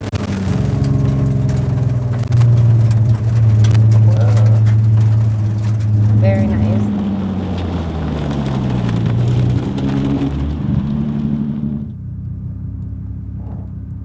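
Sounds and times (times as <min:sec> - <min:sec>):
car engine running: 0:00.0 - 0:14.0
road and wind noise: 0:00.0 - 0:14.0.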